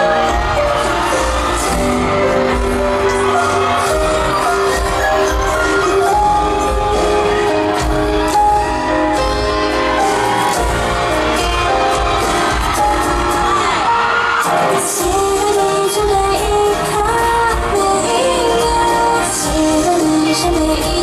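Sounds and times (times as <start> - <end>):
person singing: 0.0 - 21.0
pop music with beat: 0.0 - 21.0.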